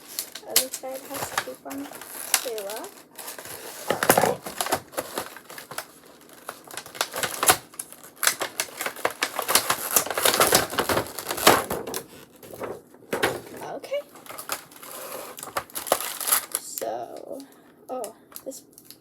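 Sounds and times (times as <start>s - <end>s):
tape peeling off plastic: 0.0s - 16.8s
plastic crackling: 0.0s - 19.0s.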